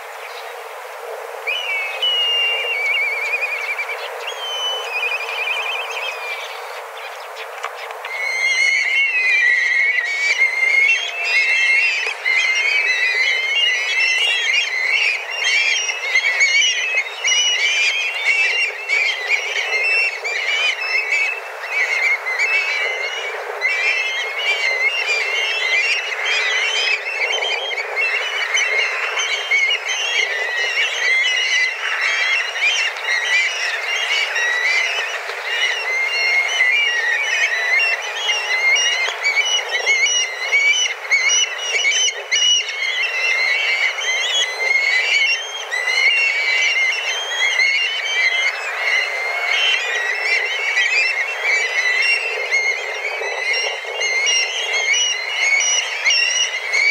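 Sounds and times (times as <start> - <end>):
flock of kites calling: 0.0 - 56.9.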